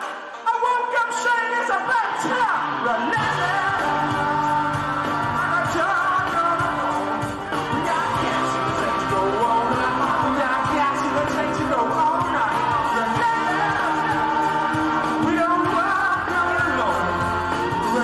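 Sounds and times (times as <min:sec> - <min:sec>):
person singing: 0:00.0 - 0:18.0
live rock band: 0:01.2 - 0:18.0.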